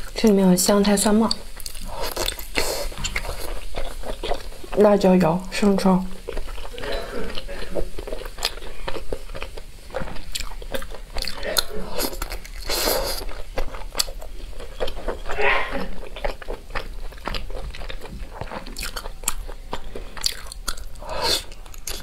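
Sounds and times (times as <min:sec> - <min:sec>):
close chewing with mouth clicks: 0:01.3 - 0:05.0, 0:06.1 - 0:22.0.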